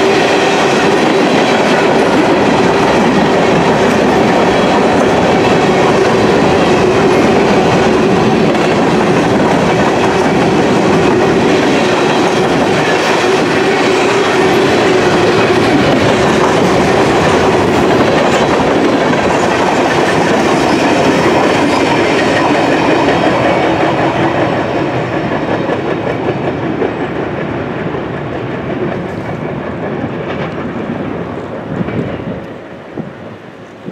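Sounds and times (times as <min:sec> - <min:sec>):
freight train wheels rumbling: 0:00.0 - 0:33.9.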